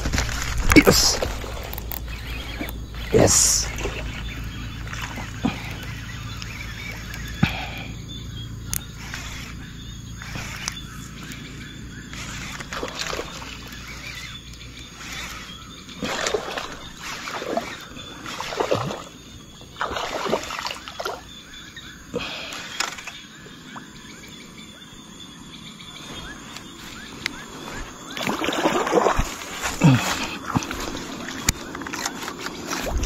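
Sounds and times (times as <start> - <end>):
lure splashing across water: 0.0 - 21.7, 26.5 - 33.0.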